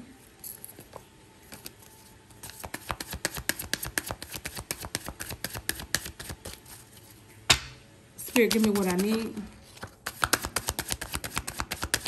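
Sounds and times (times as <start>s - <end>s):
cards being shuffled: 0.9s - 7.2s, 8.4s - 12.0s.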